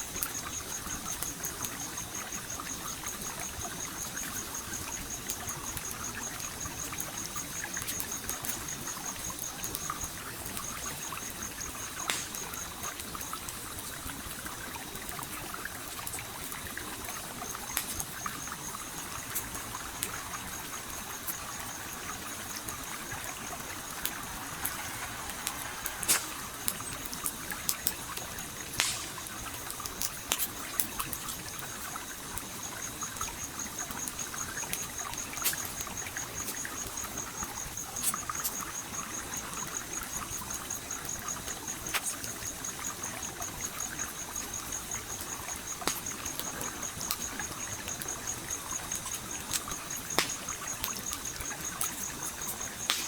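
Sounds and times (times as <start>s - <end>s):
campfire crackling and popping: 0.0s - 53.0s
stream flowing: 2.4s - 53.0s.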